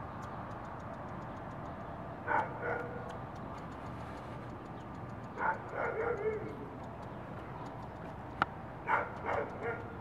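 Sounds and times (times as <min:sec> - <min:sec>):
faint regular ticking: 0:00.0 - 0:10.0
outdoor background hiss: 0:00.0 - 0:10.0.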